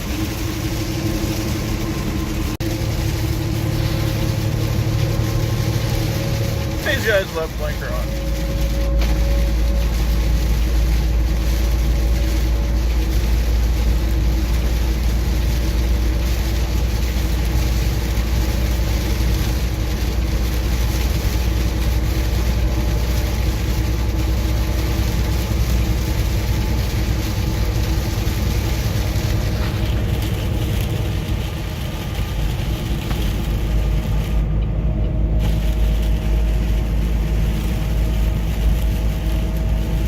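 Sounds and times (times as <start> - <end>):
rain on truck cab: 0.0 - 40.0
truck engine and road rumble: 0.0 - 40.0
tyres hissing on wet road: 0.0 - 40.0.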